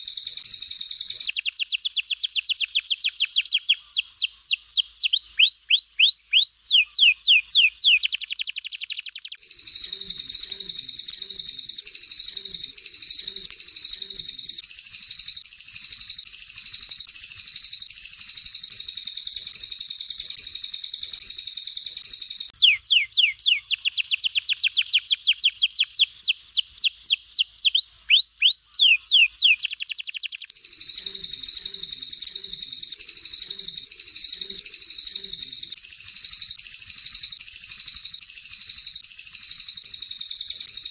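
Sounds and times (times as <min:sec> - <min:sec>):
sharp downward-sweeping bird whistles: 0:00.0 - 0:18.8, 0:19.5 - 0:40.9
high-pitched rolling bird trill: 0:00.0 - 0:40.9.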